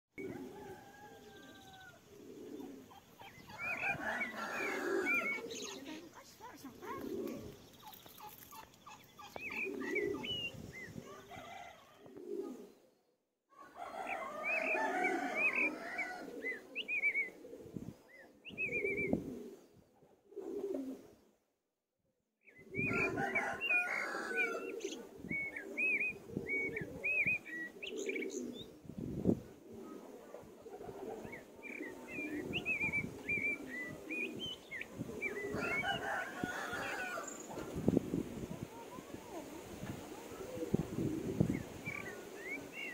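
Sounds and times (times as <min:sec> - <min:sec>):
older birds calling: 0:00.2 - 0:12.8, 0:13.6 - 0:19.7, 0:22.5 - 0:28.8, 0:29.7 - 0:38.2, 0:38.9 - 0:42.9.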